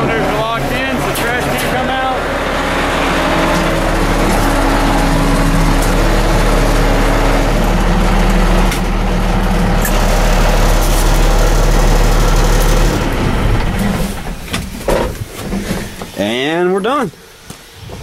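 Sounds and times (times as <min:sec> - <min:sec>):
diesel truck engine running: 0:00.0 - 0:17.6.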